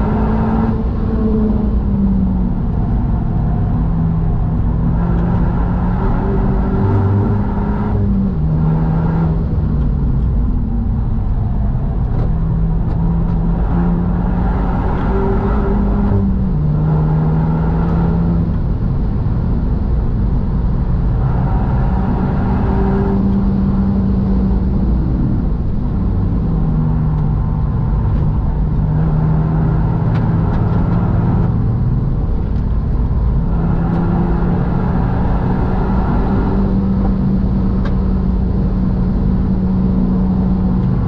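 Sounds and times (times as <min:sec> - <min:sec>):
car engine pulling hard: 0:00.0 - 0:41.0
tyre and road noise: 0:00.0 - 0:41.0.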